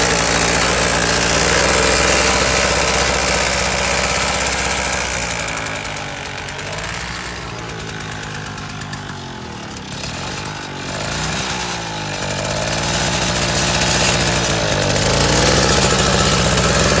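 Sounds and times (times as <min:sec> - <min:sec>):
tractor engine knocking: 0:00.0 - 0:17.0.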